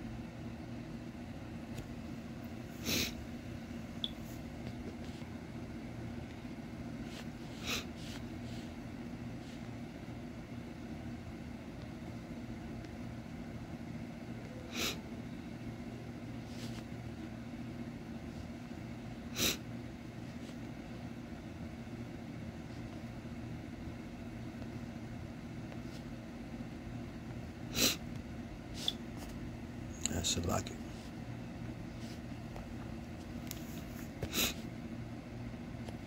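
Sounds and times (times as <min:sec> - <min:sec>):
low room hum: 0:00.0 - 0:36.0.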